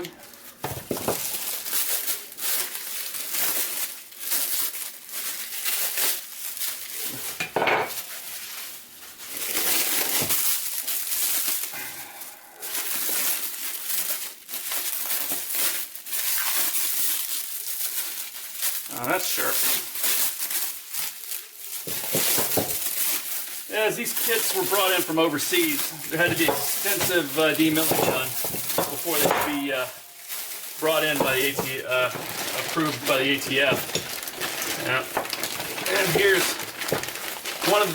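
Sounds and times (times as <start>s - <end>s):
wrapping crinkling and rustling: 0.0s - 37.9s.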